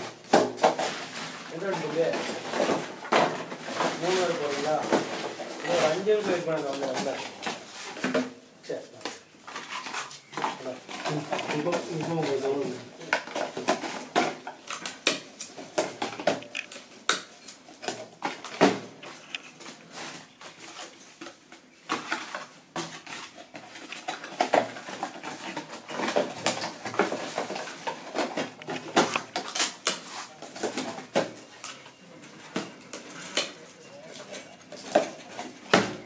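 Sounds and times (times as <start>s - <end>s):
cardboard boxes clacking and tapping: 0.0s - 8.4s, 9.0s - 36.0s.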